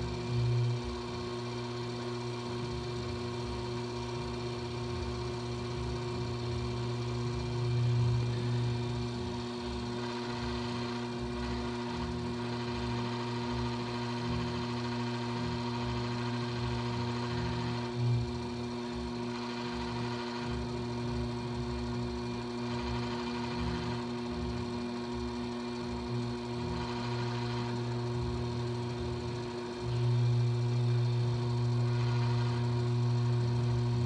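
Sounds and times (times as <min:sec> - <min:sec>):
potter's wheel motor hum: 0:00.0 - 0:34.0.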